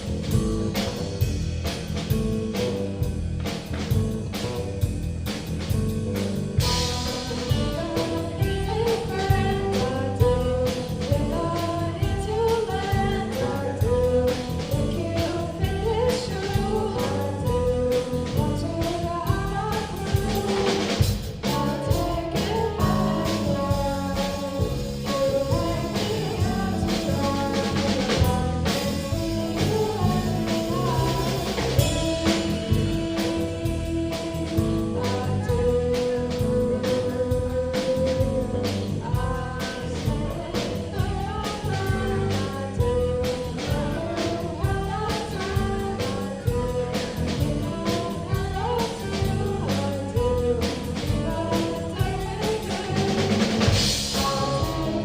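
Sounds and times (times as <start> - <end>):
live band playing: 0.0 - 55.0
person singing: 6.1 - 55.0.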